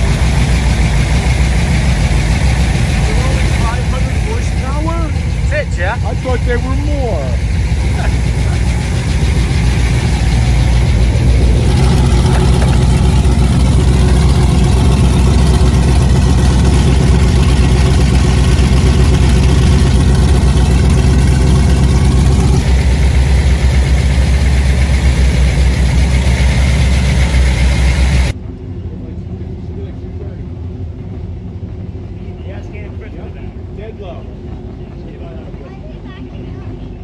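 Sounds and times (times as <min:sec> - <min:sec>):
boat engines idling: 0:00.0 - 0:37.0.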